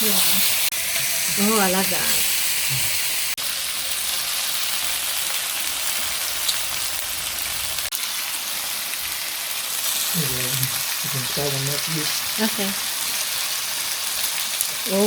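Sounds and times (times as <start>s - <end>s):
pork sizzling in a pan: 0.0s - 15.0s.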